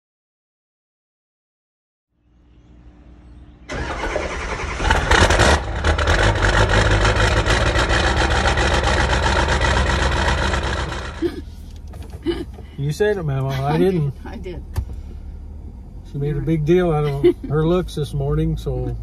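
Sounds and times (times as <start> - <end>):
vehicle engine starting and idling: 3.0 - 19.0.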